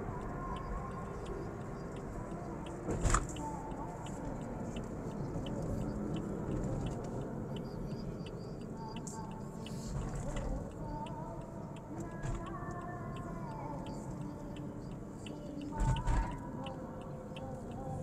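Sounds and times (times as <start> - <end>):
road and engine rumble: 0.0 - 18.0
faint regular ticking: 0.1 - 18.0.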